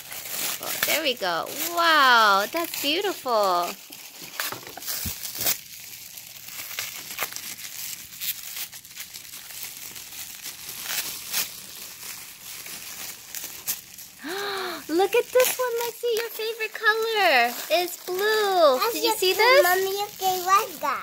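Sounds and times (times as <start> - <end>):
paper tearing: 0.0 - 5.8, 6.4 - 13.9, 14.9 - 21.0
tissue paper crinkling: 0.0 - 21.0.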